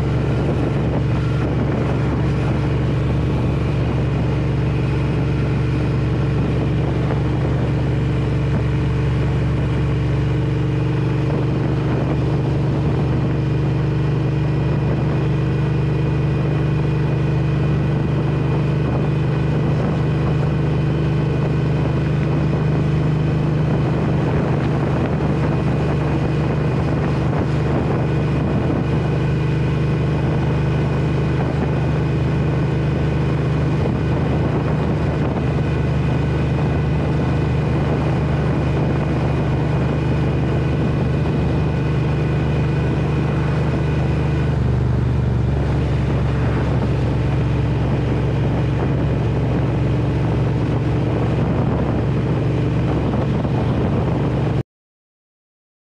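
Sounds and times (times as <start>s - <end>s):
motorcycle engine cruising: 0.0s - 54.6s.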